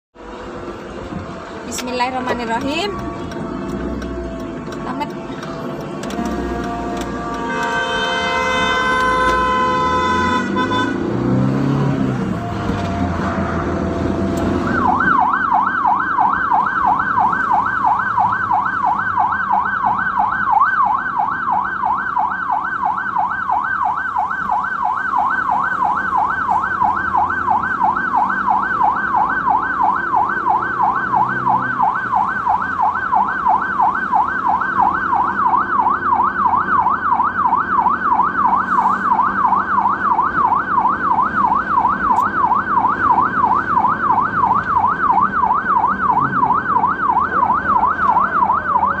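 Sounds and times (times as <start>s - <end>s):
vehicle engine and road noise: 0.1s - 49.0s
ambulance siren yelping: 0.6s - 49.0s.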